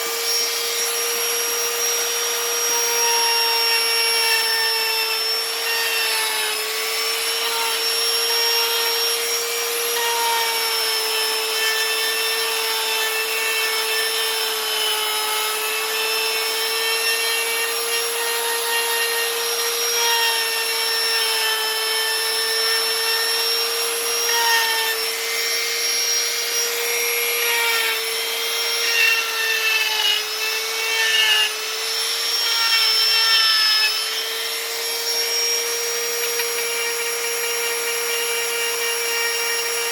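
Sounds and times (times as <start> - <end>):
bit grinding into wood: 0.0 - 39.9
rotary tool whining: 0.0 - 39.9.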